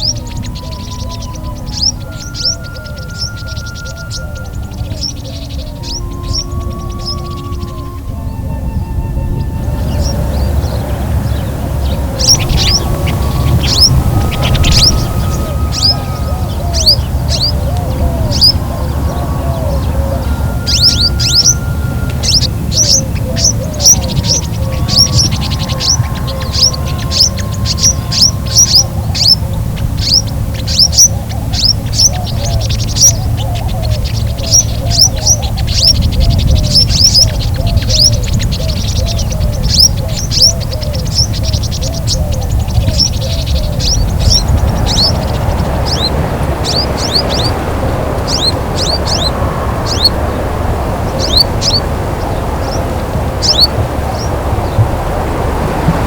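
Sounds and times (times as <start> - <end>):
low background rumble: 0.0 - 56.0
songbirds chirping: 0.0 - 56.0.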